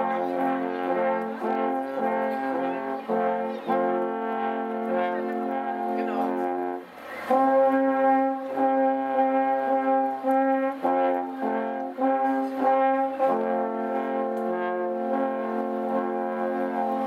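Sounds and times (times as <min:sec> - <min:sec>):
alphorns playing in harmony: 0:00.0 - 0:17.0.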